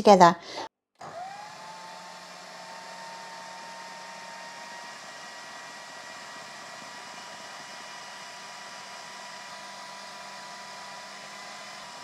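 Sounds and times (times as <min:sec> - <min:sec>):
food processor motor whining: 0:01.0 - 0:12.0.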